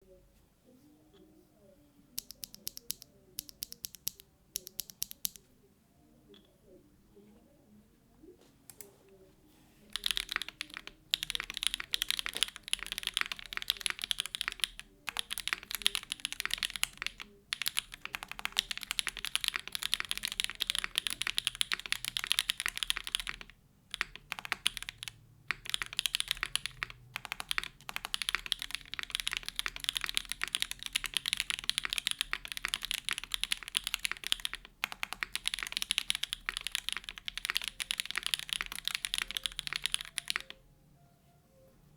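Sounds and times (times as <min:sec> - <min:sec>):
typing on mechanical keyboard: 0:02.2 - 0:05.4, 0:09.8 - 0:40.6.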